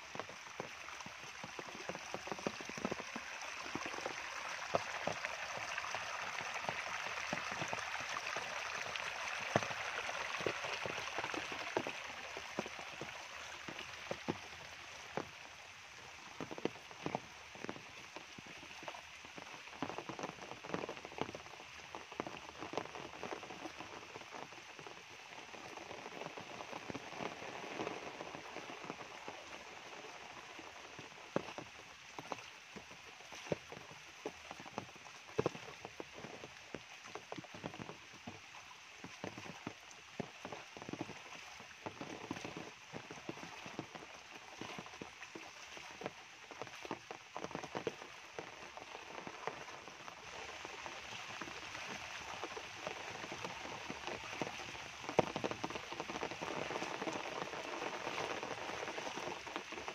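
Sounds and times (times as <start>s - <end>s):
rain on foliage and wet ground: 0.0s - 59.9s.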